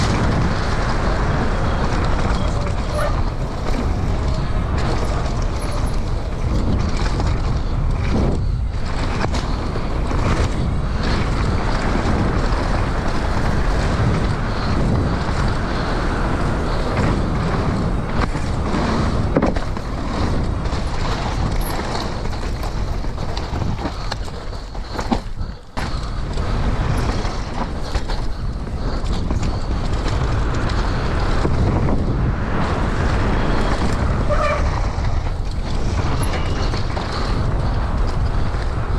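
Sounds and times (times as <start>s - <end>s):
bike rattling and knocking: 0.0s - 38.9s
tyres running over dirt: 0.0s - 38.9s
wind rushing over microphone: 0.0s - 38.9s.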